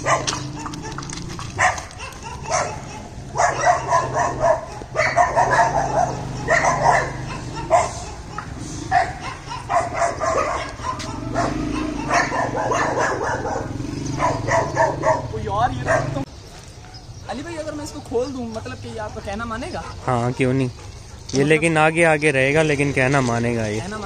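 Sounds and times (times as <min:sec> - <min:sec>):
dogs barking: 0:00.0 - 0:23.5.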